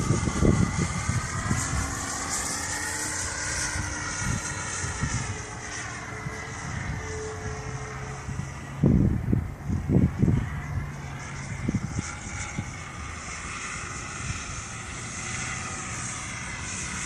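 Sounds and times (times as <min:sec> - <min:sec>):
model plane motor whining: 0:00.0 - 0:17.0
wind rumbling on microphone: 0:00.0 - 0:17.0.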